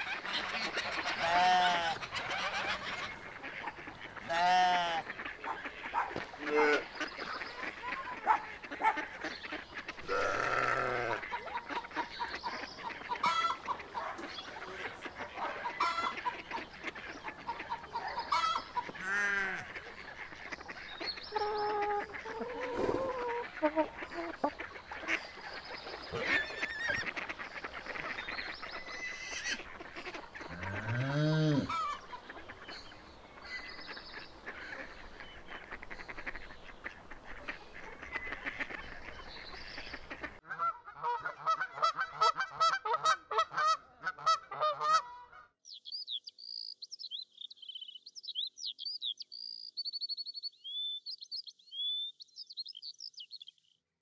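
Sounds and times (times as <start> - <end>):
small birds chirping: 0.0 - 40.4, 45.6 - 53.8
farmyard fowl calling: 0.0 - 45.6.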